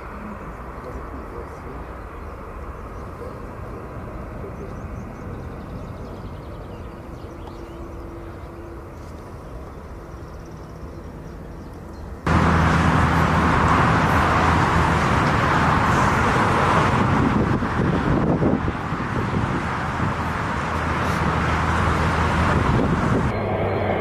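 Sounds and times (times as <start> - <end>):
vehicle running noise: 0.0 - 24.0.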